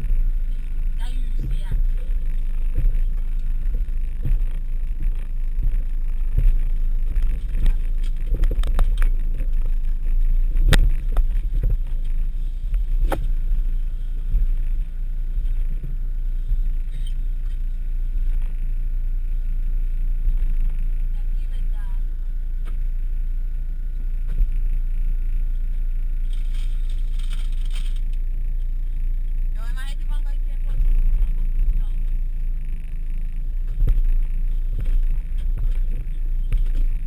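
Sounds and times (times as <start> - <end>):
engine and drivetrain rumble: 0.0 - 37.0.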